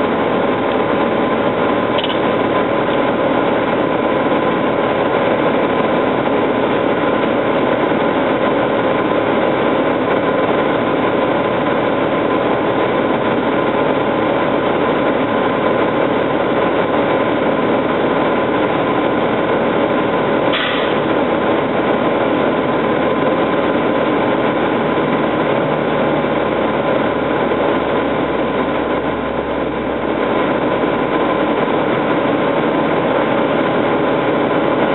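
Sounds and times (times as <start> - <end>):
constant whine: 0.0 - 34.9
diesel engine idling: 0.0 - 34.9.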